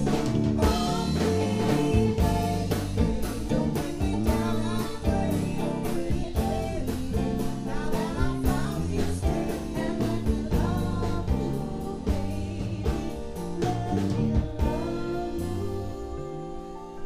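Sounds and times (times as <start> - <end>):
drum kit: 0.0 - 17.0
electric bass: 0.0 - 17.0
electric guitar: 0.0 - 17.0
woman singing: 0.0 - 17.0.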